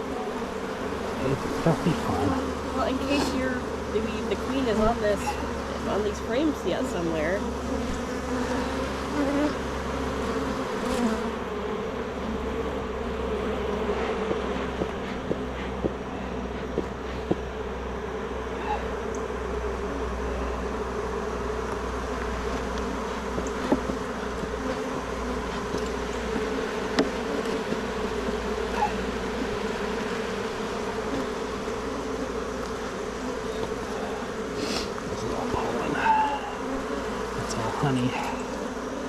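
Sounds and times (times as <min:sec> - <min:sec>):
bees buzzing: 0:00.0 - 0:39.0.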